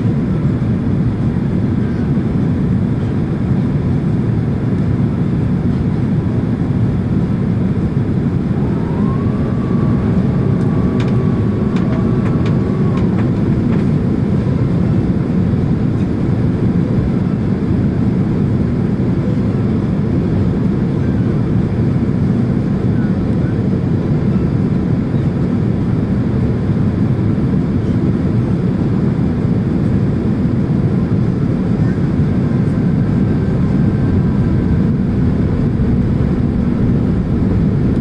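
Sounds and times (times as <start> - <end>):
airliner cabin rumble: 0.0 - 38.0
faint whine: 4.7 - 27.1, 29.0 - 38.0.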